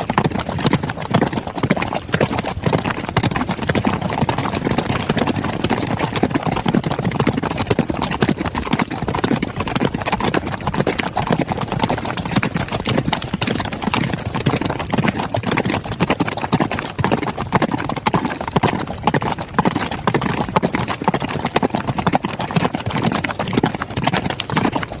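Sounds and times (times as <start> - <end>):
horses galloping: 0.0 - 25.0.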